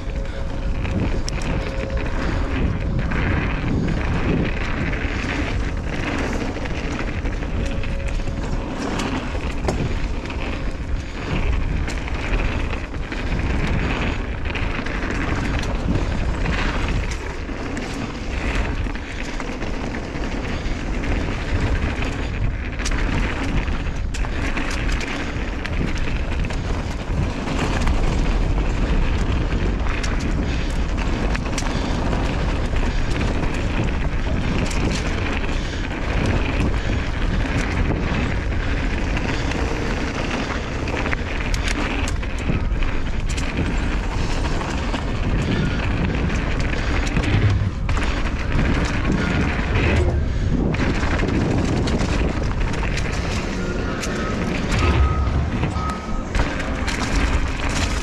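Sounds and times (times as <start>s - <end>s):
bike clicks and rattles: 0.0s - 58.0s
wind on microphone: 0.0s - 58.0s.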